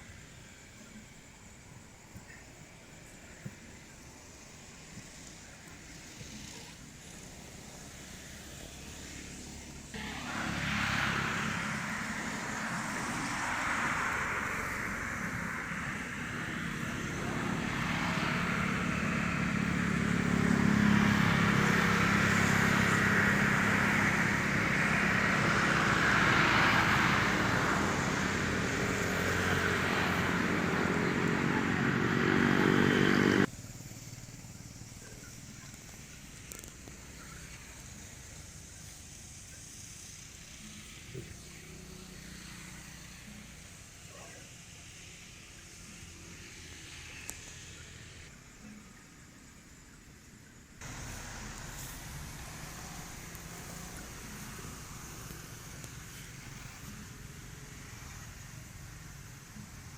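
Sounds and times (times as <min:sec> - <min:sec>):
vehicle engine running: 0:00.8 - 0:48.3, 0:50.6 - 0:59.9.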